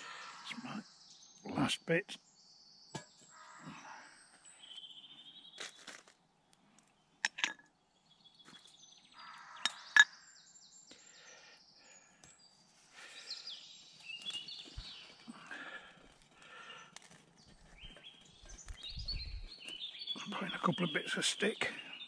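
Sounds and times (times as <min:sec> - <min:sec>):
birds singing and chirping: 0:00.0 - 0:05.8, 0:07.0 - 0:22.0.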